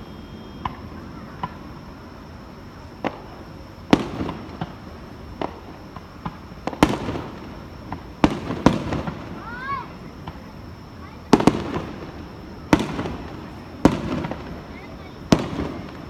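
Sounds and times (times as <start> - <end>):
fireworks booming: 0.0 - 16.0.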